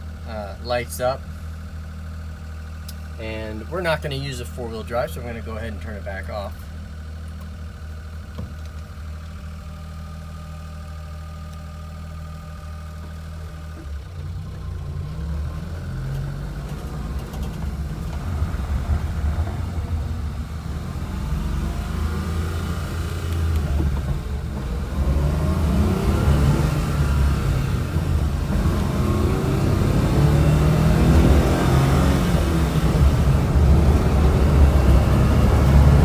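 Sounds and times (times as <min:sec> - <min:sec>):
van engine idling and accelerating: 0:00.0 - 0:36.0.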